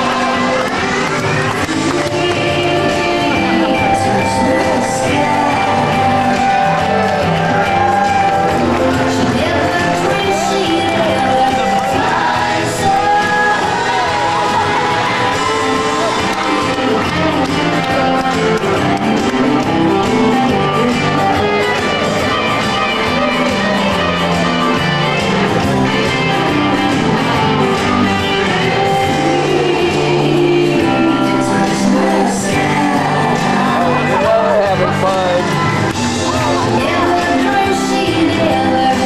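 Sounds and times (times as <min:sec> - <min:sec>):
dance music with singing: 0:00.0 - 0:39.0.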